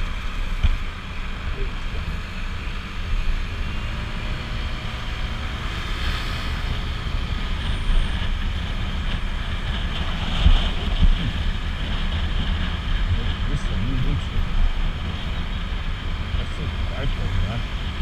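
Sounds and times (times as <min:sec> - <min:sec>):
scooter engine and road noise: 0:00.0 - 0:18.0
wind rush over microphone: 0:00.0 - 0:18.0.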